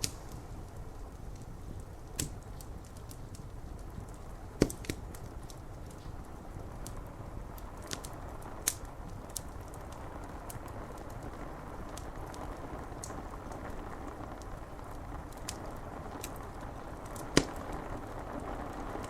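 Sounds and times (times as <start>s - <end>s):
rain on window glass: 0.0s - 19.0s
wood fire crackling: 0.0s - 19.0s.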